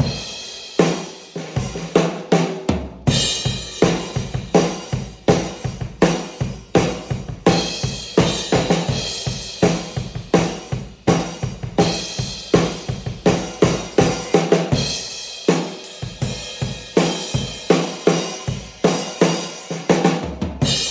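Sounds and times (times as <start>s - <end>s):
drum kit groove: 0.0s - 20.9s.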